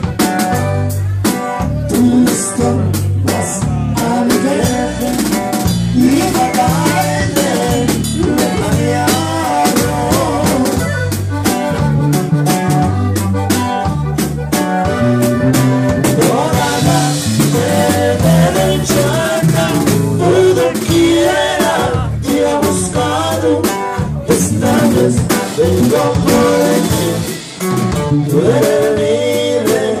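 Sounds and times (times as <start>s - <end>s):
accordion melody: 0.0s - 30.0s
drum kit beat: 0.0s - 30.0s
strummed guitar: 0.0s - 30.0s.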